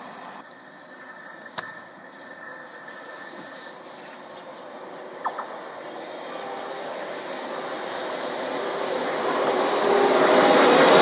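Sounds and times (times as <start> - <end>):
distant train rumbling: 0.0 - 11.0.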